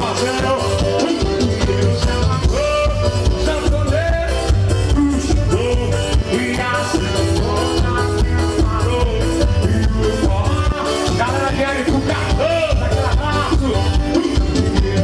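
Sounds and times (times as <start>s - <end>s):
band playing loud music: 0.0s - 15.0s
person singing: 0.0s - 15.0s.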